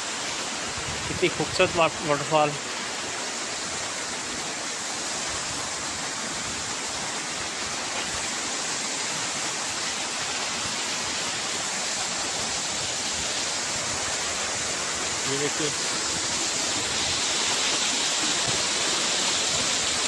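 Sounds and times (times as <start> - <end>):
waterfall rushing into a pool: 0.0 - 20.0.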